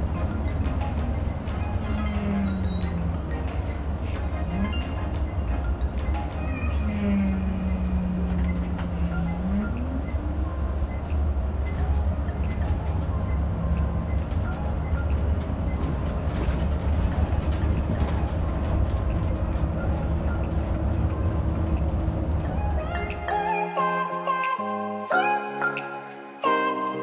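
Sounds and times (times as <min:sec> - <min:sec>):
bus engine drone: 0:00.0 - 0:23.3.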